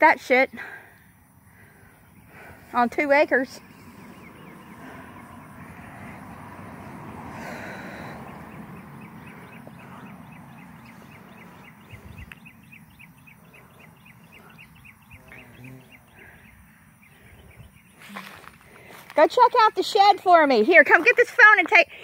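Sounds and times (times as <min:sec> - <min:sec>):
bird chirping: 0:00.0 - 0:20.3.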